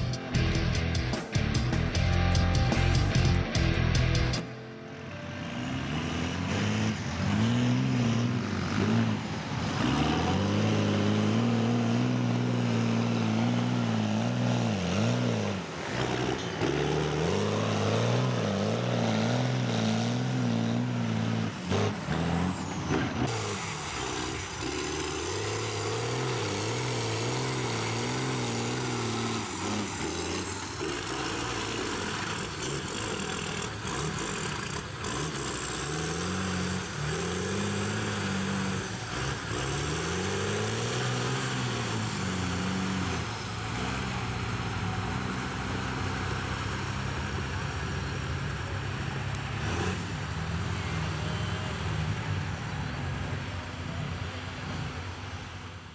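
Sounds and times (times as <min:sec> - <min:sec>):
diesel engine revving: 0:05.4 - 0:55.9.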